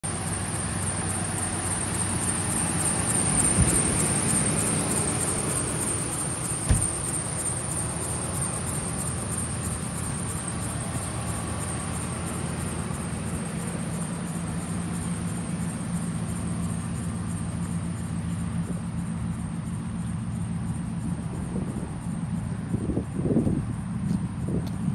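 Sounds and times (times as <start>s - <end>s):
truck engine idling: 0.0s - 24.9s.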